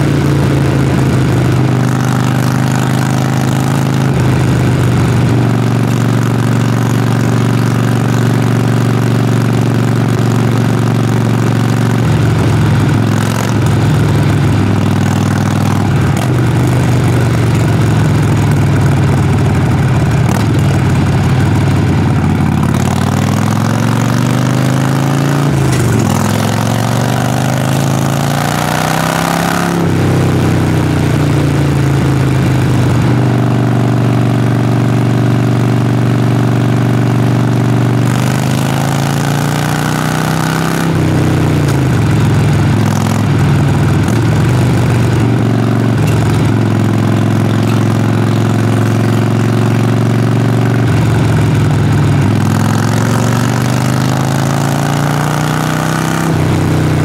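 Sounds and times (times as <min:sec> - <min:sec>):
motorcycle exhaust while riding: 0:00.0 - 0:57.0.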